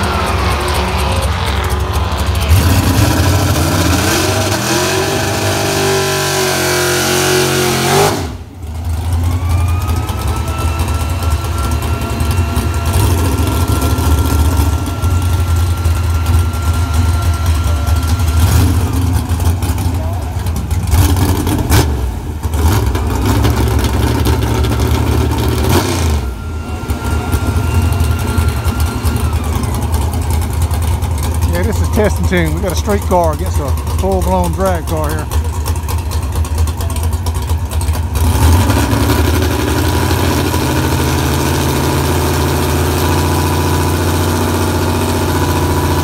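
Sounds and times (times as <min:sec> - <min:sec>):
drag car engine revving: 0:00.0 - 0:46.0
engine idling loudly: 0:00.0 - 0:46.0.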